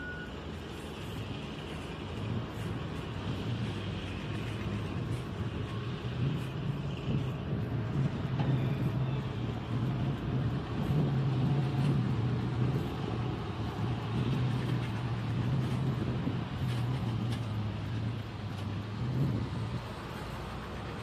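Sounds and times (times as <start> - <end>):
dump truck diesel engine: 0.0 - 21.0.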